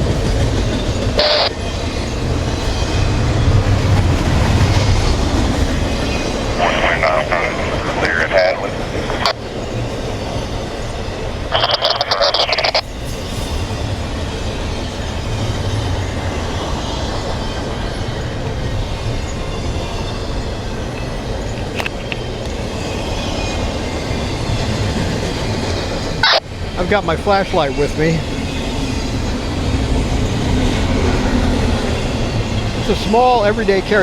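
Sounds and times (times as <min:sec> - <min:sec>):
train rumbling past: 0:00.0 - 0:34.0.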